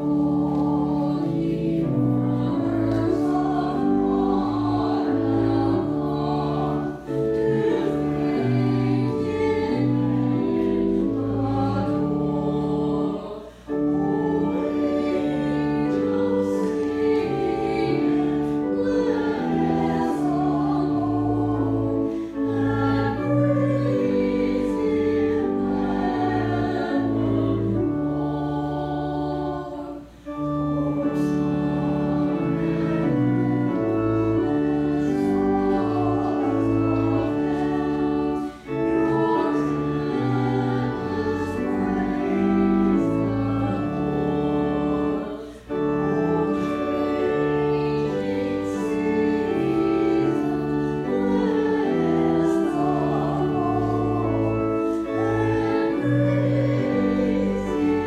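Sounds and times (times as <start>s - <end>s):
organ accompaniment: 0.0s - 58.0s
voices singing a hymn: 0.0s - 58.0s.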